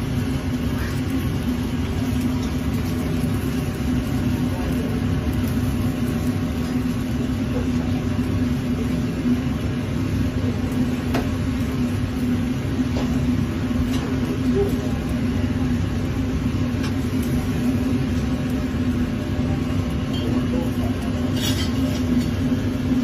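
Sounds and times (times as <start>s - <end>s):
kitchen machinery drone: 0.0s - 23.0s.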